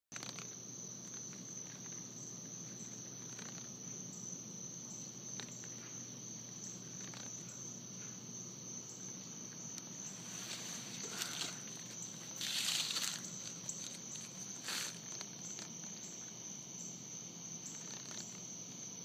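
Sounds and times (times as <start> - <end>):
cricket trilling: 0.1 - 19.0.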